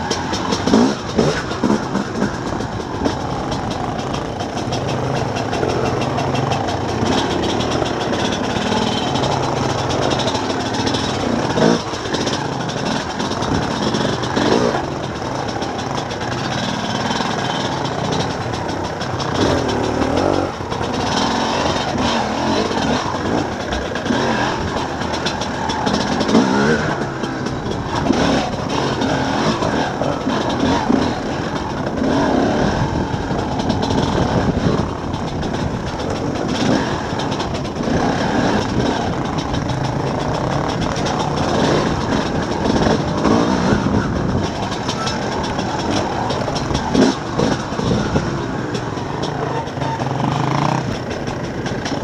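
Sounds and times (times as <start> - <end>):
dirt bike engine revving: 0.0 - 52.0
knocks and rattles from bumps: 0.0 - 52.0.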